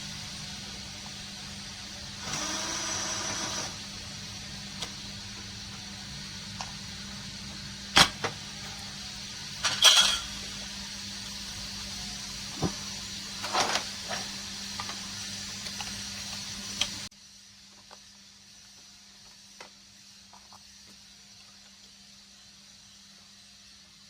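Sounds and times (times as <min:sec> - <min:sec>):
steady hum and hiss: 0:00.0 - 0:24.0.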